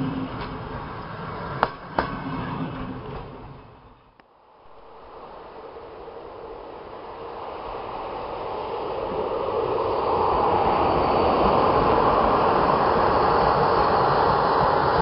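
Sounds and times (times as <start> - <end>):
train approaching with rail noise: 0.0 - 15.0.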